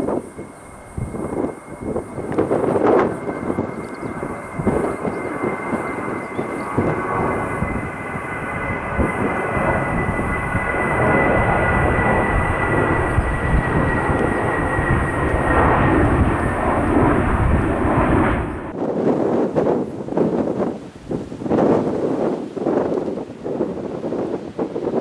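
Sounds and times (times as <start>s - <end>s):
airliner engines passing: 0.0s - 25.0s.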